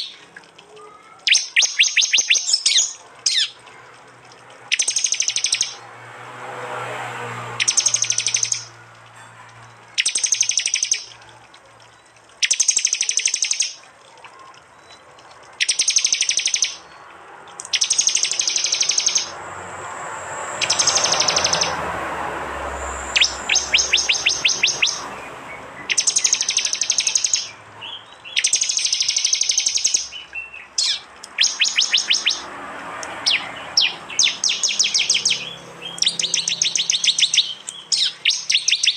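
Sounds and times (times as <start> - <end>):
bird calls in rapid high bursts: 0.0 - 3.7, 4.7 - 5.8, 7.5 - 8.8, 9.8 - 11.2, 12.0 - 15.0, 15.6 - 19.4, 20.2 - 38.9
sharp ticking bird notes: 0.0 - 38.9.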